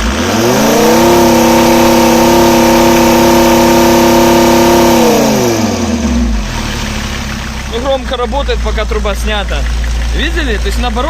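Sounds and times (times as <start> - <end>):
loud diesel engine revving: 0.0 - 11.0.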